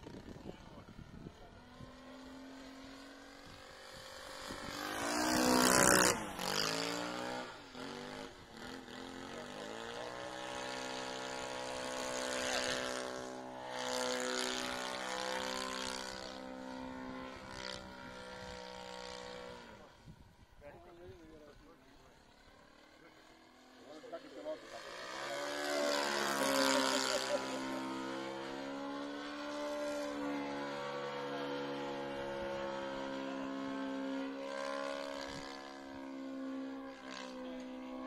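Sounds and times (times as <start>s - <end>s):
model airplane engine droning: 0.0s - 38.0s.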